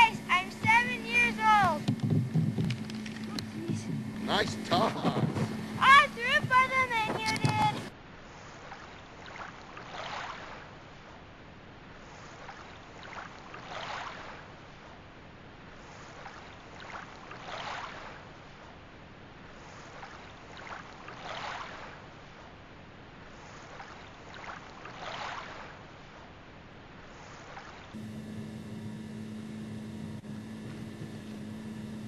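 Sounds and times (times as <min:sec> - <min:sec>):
water washing in gentle swells: 0:00.0 - 0:32.0.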